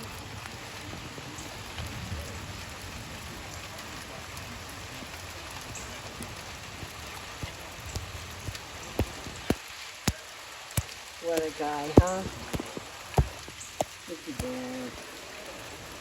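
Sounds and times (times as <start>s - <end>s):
drops ticking: 0.0s - 16.0s
steady rain hiss: 0.0s - 16.0s.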